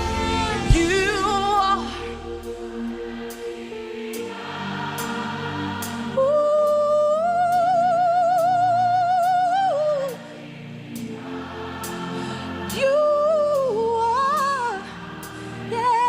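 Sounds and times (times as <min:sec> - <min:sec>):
keyboard chords: 0:00.0 - 0:15.9
choir singing softly: 0:00.0 - 0:16.0.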